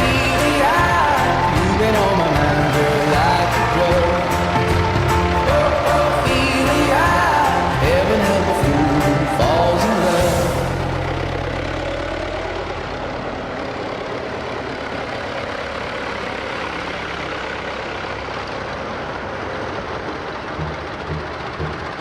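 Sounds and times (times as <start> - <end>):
tractor engines rumbling: 0.0 - 22.0.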